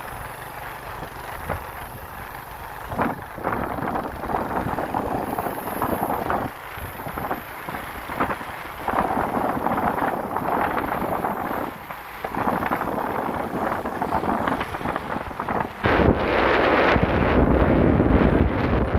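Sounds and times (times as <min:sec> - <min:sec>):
vehicle running on road: 0:00.0 - 0:18.9
wind gusting over microphone: 0:01.0 - 0:18.9.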